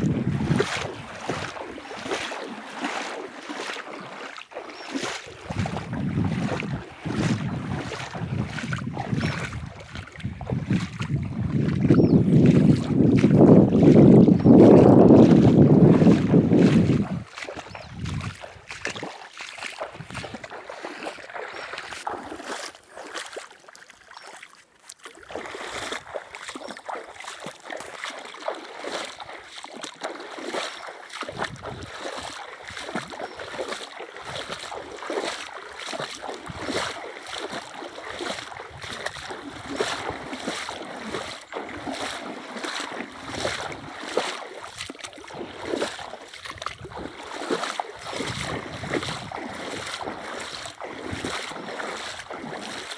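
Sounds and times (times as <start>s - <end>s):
river water splashing around boat: 0.0s - 52.9s.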